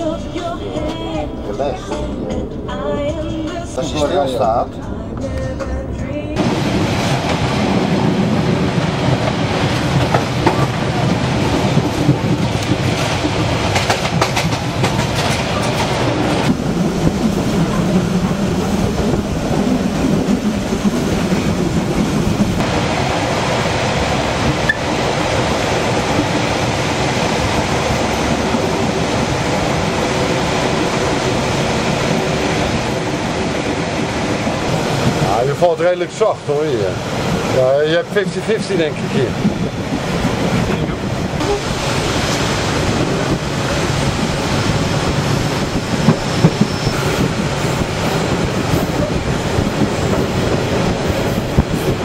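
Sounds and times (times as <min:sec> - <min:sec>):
train wheels rumbling: 0:00.0 - 0:52.0.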